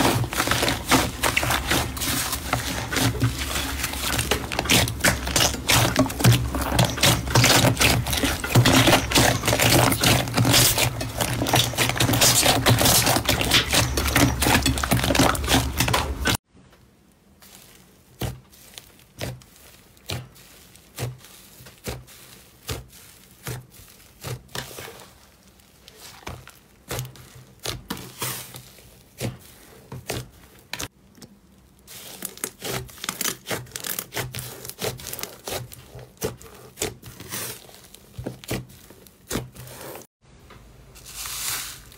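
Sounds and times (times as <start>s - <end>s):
slime crackling and squishing: 0.0s - 40.1s
slime squelches: 0.0s - 40.1s.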